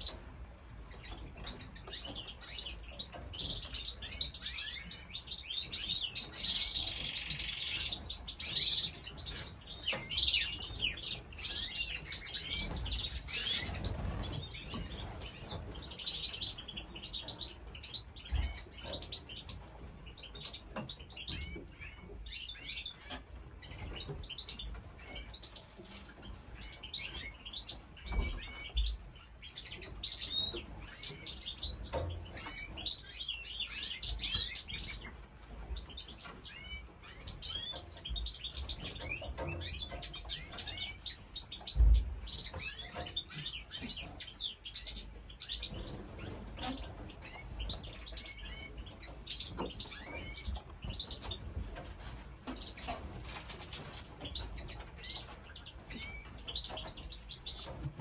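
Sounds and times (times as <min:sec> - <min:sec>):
small birds chirping and chattering: 0:00.0 - 0:58.0.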